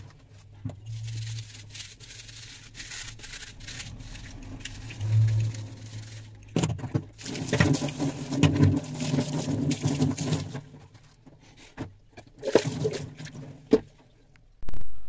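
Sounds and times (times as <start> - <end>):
hands scrubbing a steel sink: 0.0 - 13.5.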